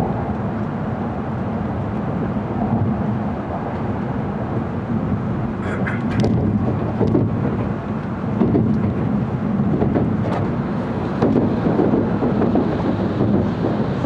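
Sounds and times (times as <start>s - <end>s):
train running low rumble: 0.0s - 14.0s.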